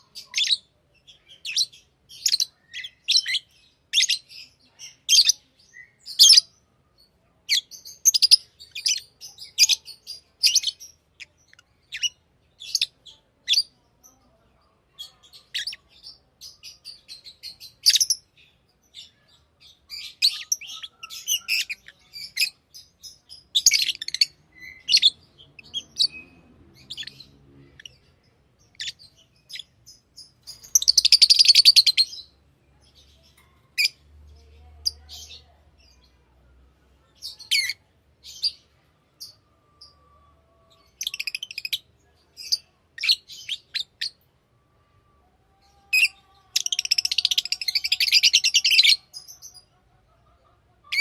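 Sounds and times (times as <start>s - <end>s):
lovebirds chirping: 0.0s - 51.0s.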